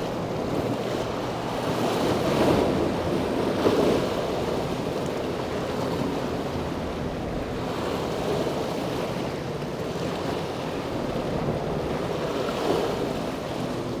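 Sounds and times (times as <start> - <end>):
surf: 0.0 - 14.0
wind buffeting microphone: 0.0 - 14.0.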